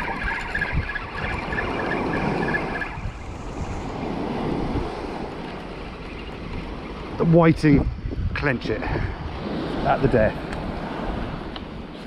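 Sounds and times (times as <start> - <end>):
waves breaking on beach: 0.0 - 7.5, 8.4 - 12.0
wind buffeting microphone: 0.0 - 12.0.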